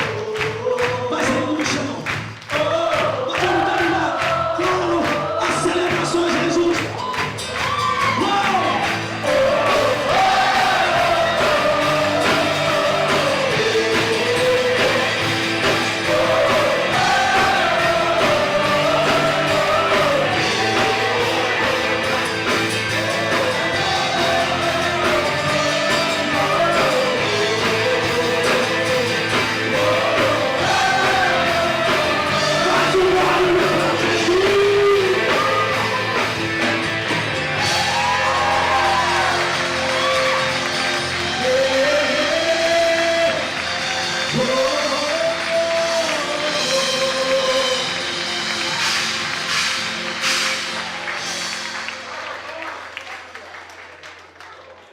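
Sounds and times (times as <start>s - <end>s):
worship band playing rock song: 0.0s - 53.2s.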